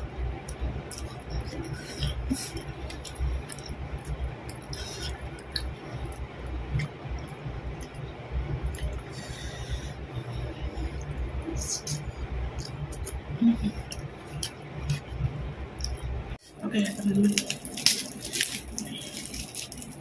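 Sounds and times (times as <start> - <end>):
wet chewing and mouth sounds: 0.0 - 20.0.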